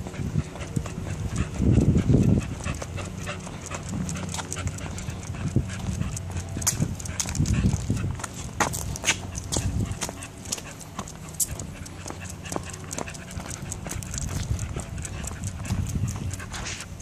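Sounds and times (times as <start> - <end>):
dog panting: 0.0 - 17.0
footsteps on concrete: 0.0 - 17.0
dog claws tapping on concrete: 0.6 - 17.0.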